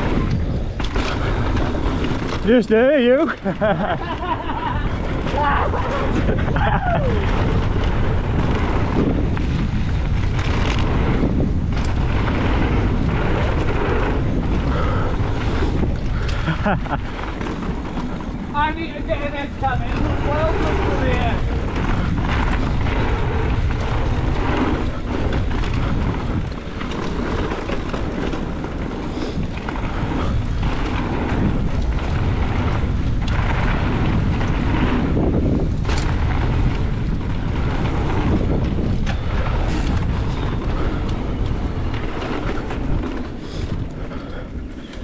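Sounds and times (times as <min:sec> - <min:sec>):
bike knocking and rattling: 0:00.0 - 0:45.0
wind rushing over microphone: 0:00.0 - 0:45.0.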